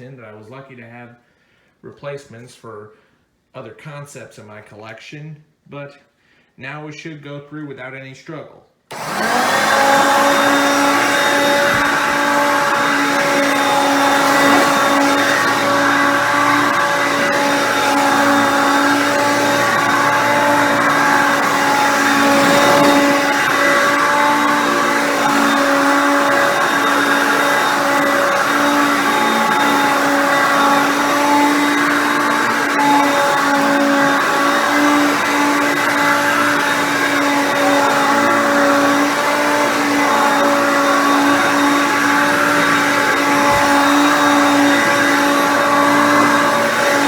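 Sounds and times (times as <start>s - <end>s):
upright vacuum cleaner running: 8.9s - 47.0s.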